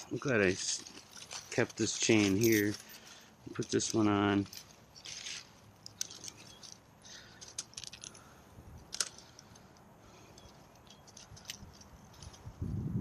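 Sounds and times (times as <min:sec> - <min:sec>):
steel chain clinking: 0:00.0 - 0:12.7.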